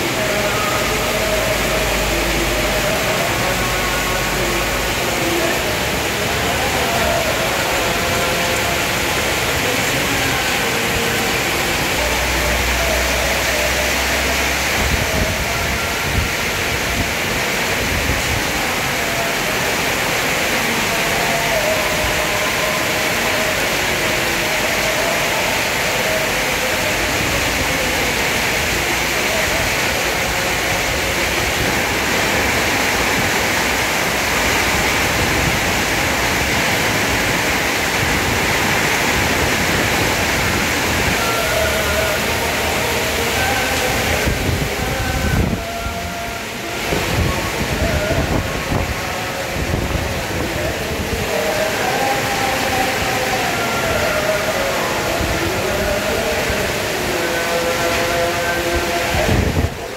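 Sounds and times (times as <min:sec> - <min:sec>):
faint voices: 0:00.0 - 0:59.9
heavy rain pouring: 0:00.0 - 0:59.9.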